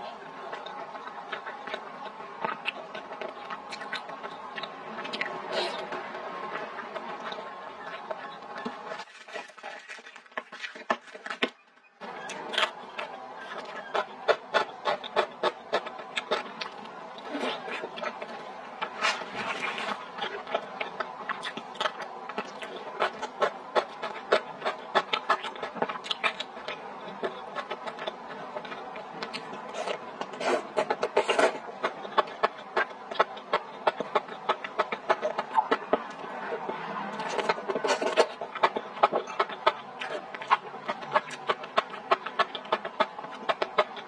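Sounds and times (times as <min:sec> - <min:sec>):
person chewing with wet smacks: 0:00.0 - 0:44.0.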